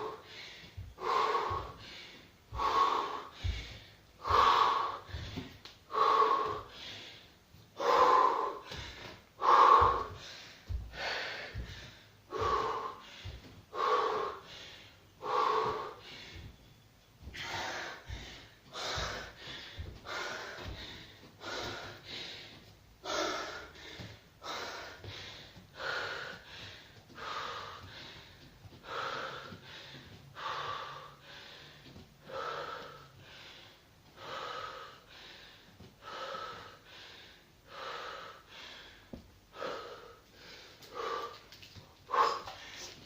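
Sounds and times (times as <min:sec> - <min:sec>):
heavy rhythmic breathing: 0:00.0 - 0:43.0.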